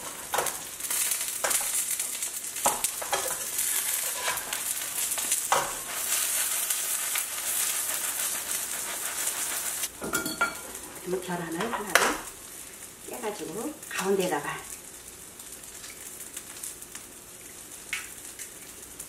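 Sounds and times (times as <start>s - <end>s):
pancake sizzling in oil: 0.0s - 19.0s.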